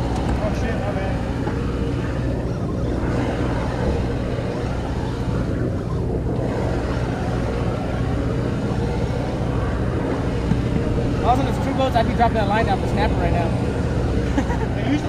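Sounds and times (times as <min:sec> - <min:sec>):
boat engine droning: 0:00.0 - 0:15.0
water noise: 0:00.0 - 0:15.0
wind noise: 0:00.0 - 0:15.0.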